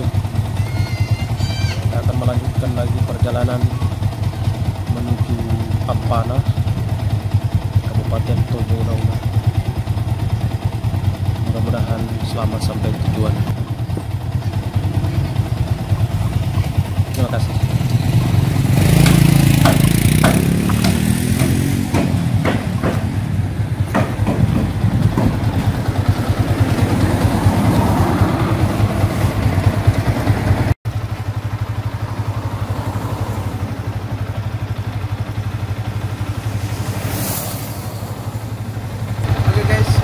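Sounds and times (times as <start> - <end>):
motorcycle engine accelerating: 0.0 - 40.0
motorcycle engine idling: 0.0 - 40.0.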